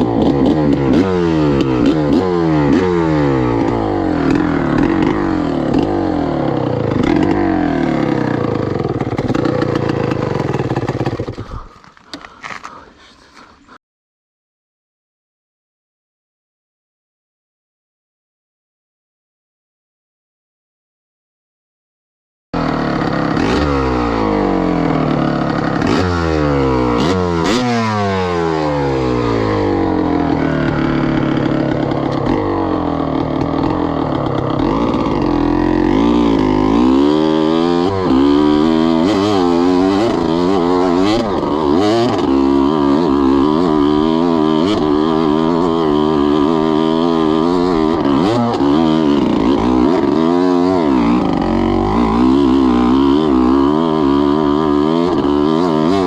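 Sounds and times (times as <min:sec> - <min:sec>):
two-stroke engine revving: 0:00.0 - 0:12.9, 0:22.6 - 0:56.0.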